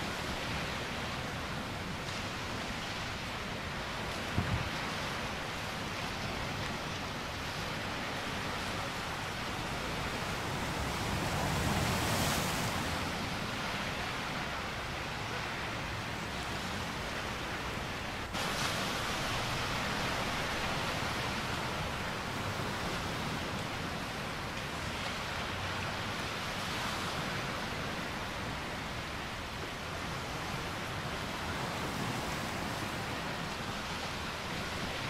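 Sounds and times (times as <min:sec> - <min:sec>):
waves breaking on sandy shore: 0:00.0 - 0:35.0.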